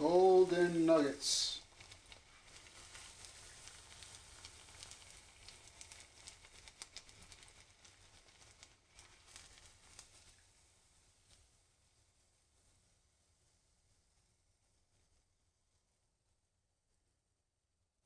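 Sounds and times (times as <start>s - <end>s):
hot oil sizzling and popping: 0.0s - 15.2s.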